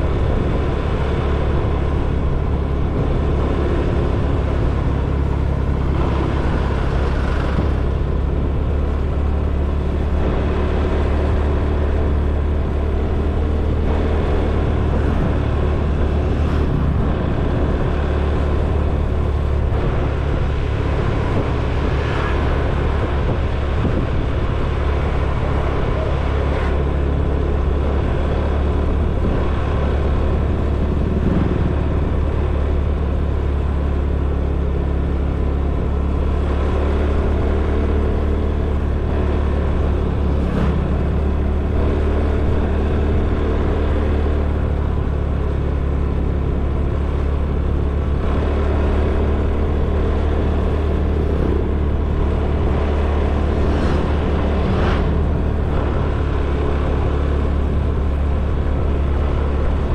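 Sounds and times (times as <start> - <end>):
motor scooter engine rumble: 0.0 - 59.9.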